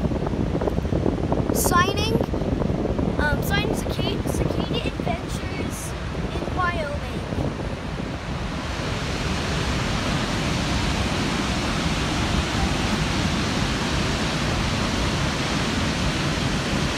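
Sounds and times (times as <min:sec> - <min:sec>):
waterfall rushing: 0:01.0 - 0:16.9.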